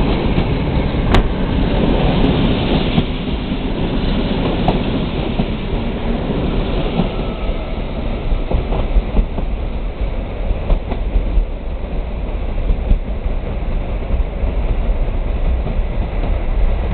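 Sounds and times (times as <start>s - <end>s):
train coaches rolling past: 0.0s - 16.9s.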